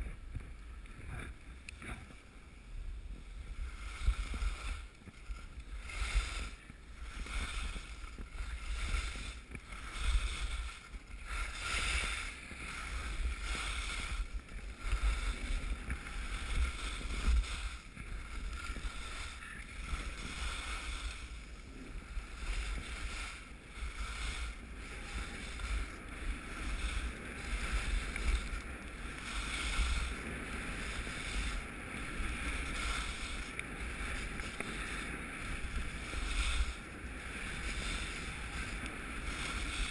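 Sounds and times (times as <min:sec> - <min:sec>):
wind rushing over microphone: 0:00.0 - 0:39.9
skis hissing over snow: 0:01.0 - 0:39.9.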